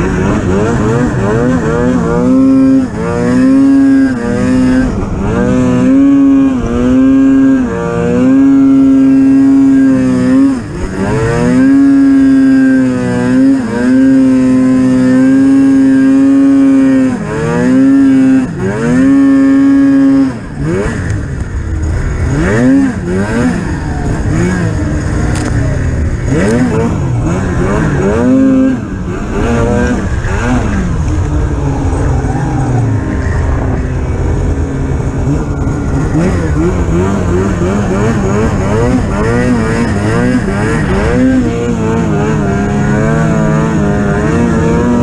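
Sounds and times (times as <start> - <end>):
snowmobile engine revving: 0.0 - 45.0.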